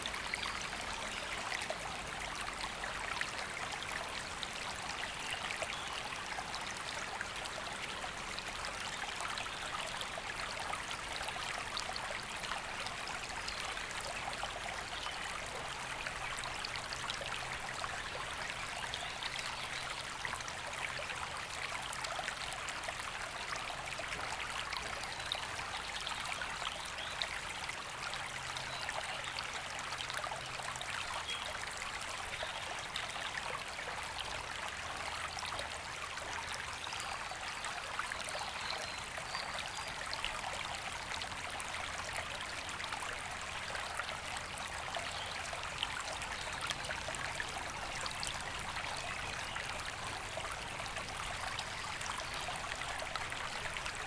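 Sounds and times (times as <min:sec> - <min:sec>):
river water running over stones: 0:00.0 - 0:54.0.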